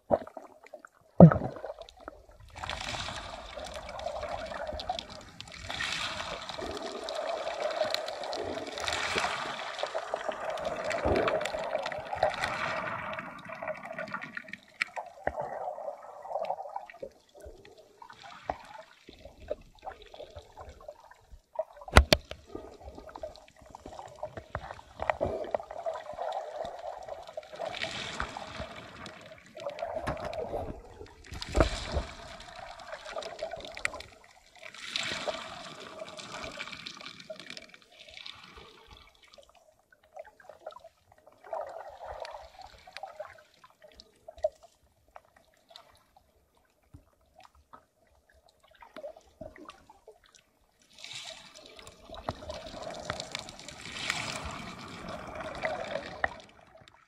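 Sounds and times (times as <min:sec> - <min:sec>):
muffled underwater water sloshing: 0:00.0 - 0:57.0.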